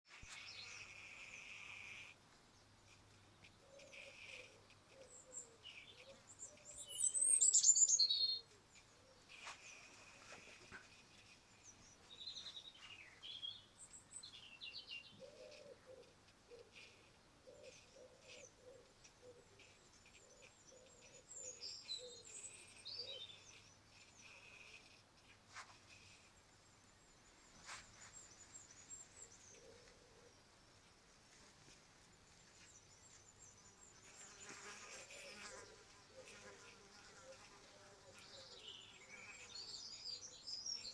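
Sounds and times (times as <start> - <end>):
birds singing and chirping: 2.5 - 30.5, 32.3 - 40.9.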